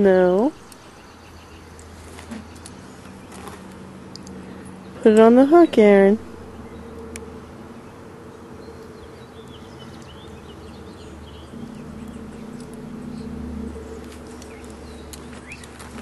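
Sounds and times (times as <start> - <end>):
low buzzing hum: 0.0 - 16.0.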